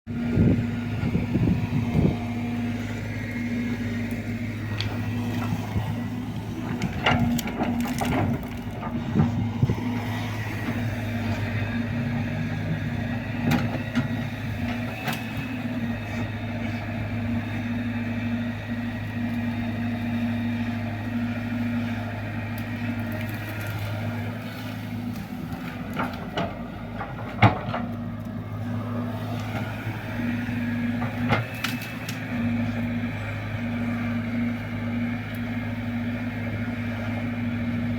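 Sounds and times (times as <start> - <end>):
excavator diesel engine running: 0.1 - 37.9.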